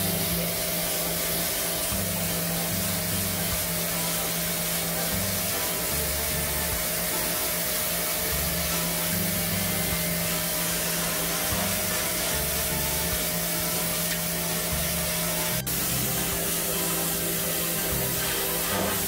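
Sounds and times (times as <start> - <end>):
pressure washer spraying water: 0.0 - 19.0
steady hum: 0.0 - 19.0.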